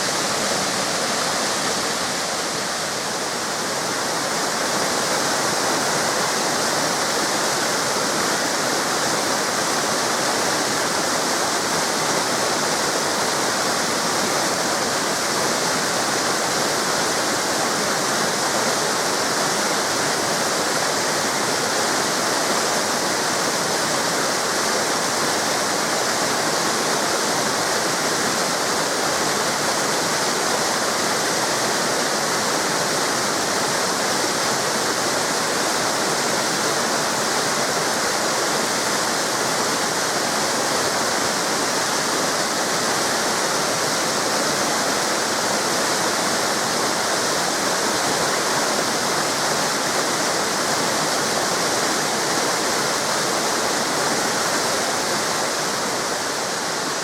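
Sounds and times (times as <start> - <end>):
waterfall and river rushing: 0.0 - 57.0.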